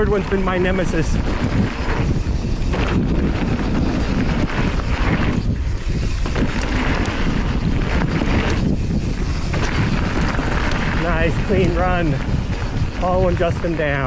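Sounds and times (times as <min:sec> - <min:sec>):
bike tyre and trail noise: 0:00.0 - 0:14.0
wind buffeting microphone: 0:00.0 - 0:14.0.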